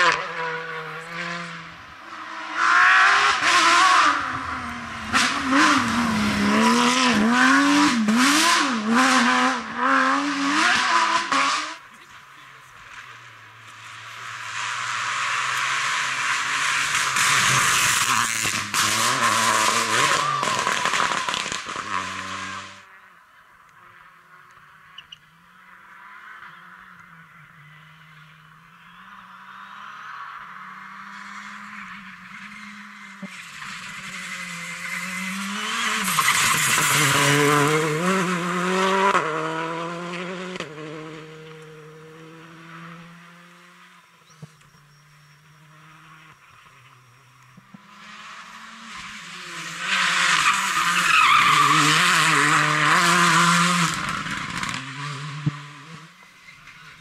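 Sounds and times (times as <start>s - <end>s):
rally car engine revving: 0.0s - 22.9s, 25.8s - 57.0s.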